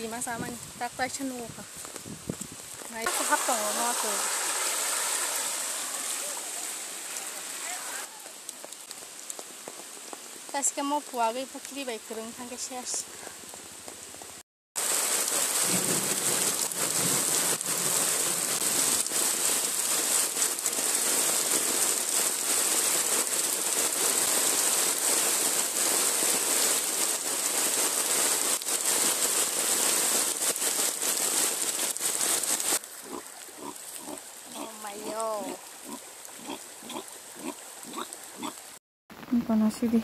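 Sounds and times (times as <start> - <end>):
heavy rain on water: 2.7 - 38.8.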